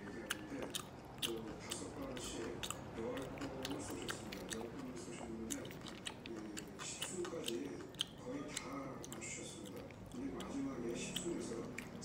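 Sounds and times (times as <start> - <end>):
cat chewing wetly: 0.0 - 12.0.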